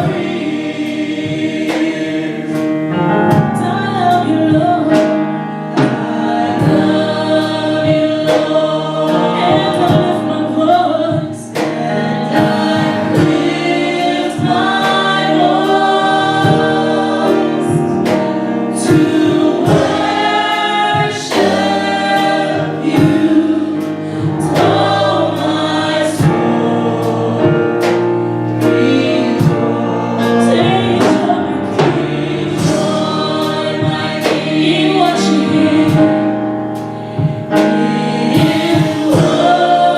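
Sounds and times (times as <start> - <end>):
gospel group singing: 0.0 - 39.9
instrumental accompaniment: 0.0 - 39.9
steady drum beat: 0.0 - 39.9.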